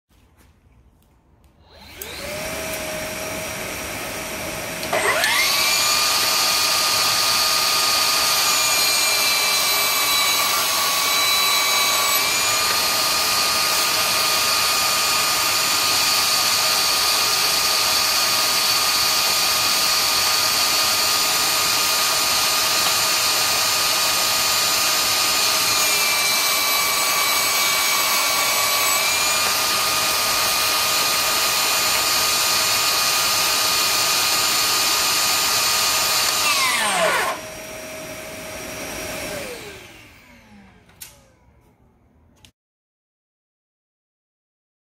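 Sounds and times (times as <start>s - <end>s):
table saw motor whine: 1.6s - 41.4s
shop vac motor running: 1.6s - 41.5s.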